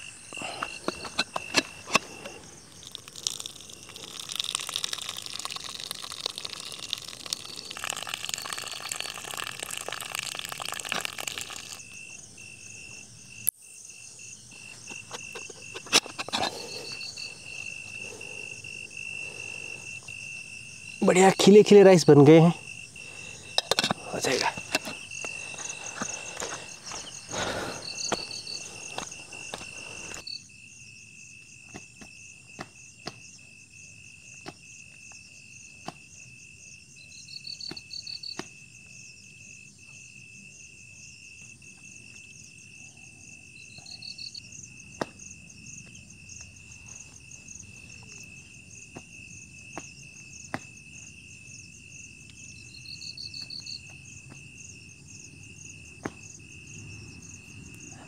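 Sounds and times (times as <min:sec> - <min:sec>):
crickets and insects chorus: 0:00.0 - 0:58.0.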